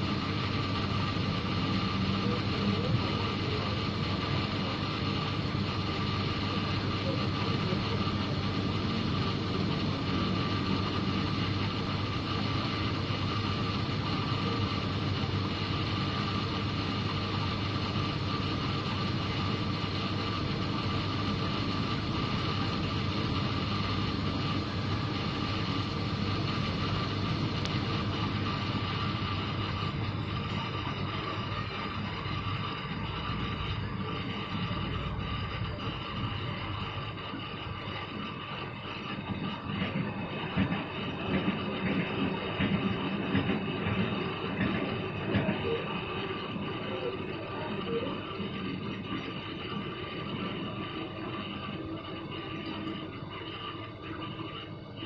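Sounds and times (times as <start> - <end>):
aquarium equipment hum: 0.0 - 55.0.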